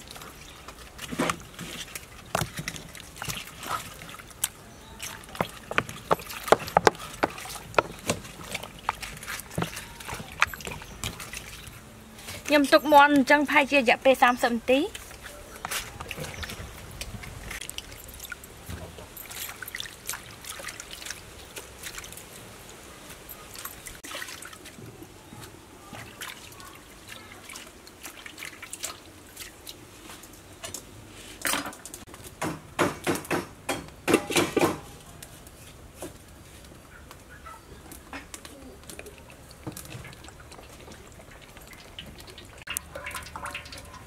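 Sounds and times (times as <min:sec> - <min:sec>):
small clicks and splashes: 0:00.0 - 0:13.4, 0:14.7 - 0:22.5, 0:23.1 - 0:25.0, 0:25.9 - 0:32.3, 0:37.9 - 0:44.0
water sloshing in steel bowl: 0:00.0 - 0:30.8, 0:38.0 - 0:44.0.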